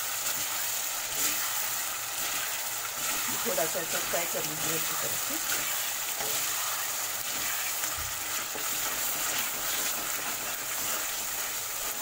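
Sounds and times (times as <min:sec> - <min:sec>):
chicken sizzling in a pan: 0:00.0 - 0:12.0
steel spatula scraping: 0:00.2 - 0:12.0.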